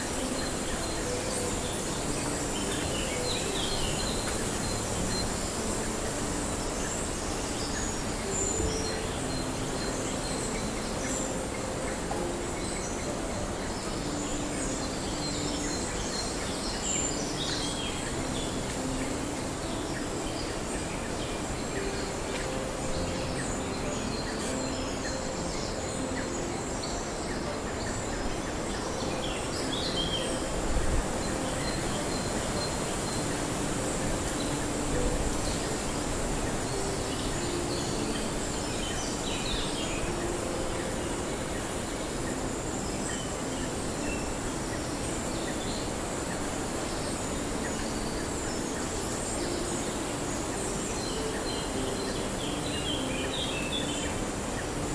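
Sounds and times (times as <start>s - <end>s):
bird chirps: 0.0s - 54.8s
steady hiss: 0.0s - 54.9s.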